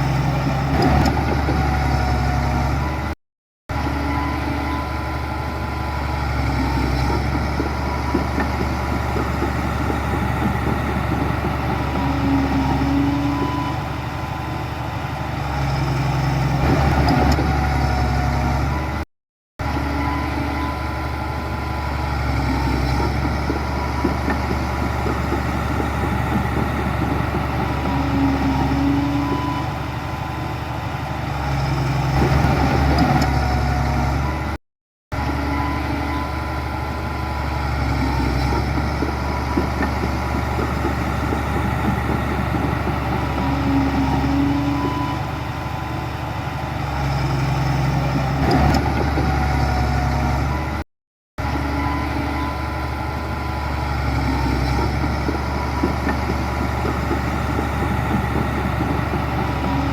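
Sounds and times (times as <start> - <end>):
heavy diesel engine running: 0.0 - 19.0, 19.6 - 50.8, 51.4 - 59.9.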